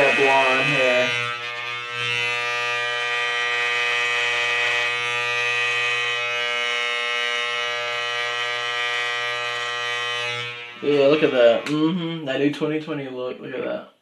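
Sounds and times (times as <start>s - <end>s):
electric hair clippers buzzing: 0.0s - 12.3s.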